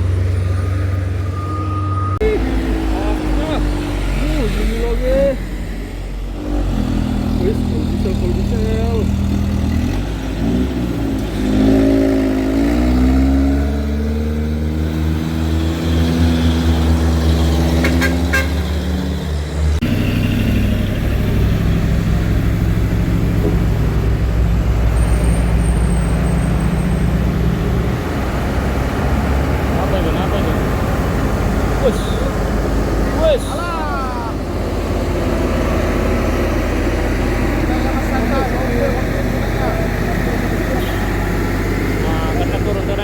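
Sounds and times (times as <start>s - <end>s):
diesel truck engine working hard: 0.0s - 43.0s.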